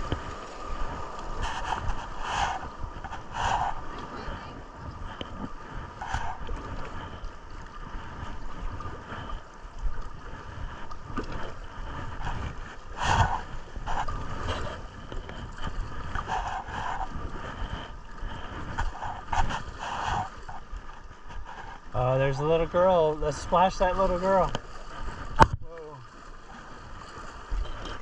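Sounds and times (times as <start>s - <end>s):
river water lapping around kayak: 0.0s - 28.0s
wind rumbling on microphone: 0.0s - 28.0s.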